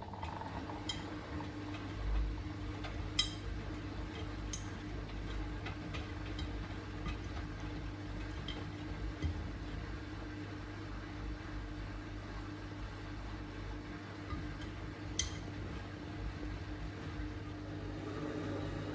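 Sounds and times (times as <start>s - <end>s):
drain pump humming: 0.0s - 10.1s, 13.7s - 18.9s.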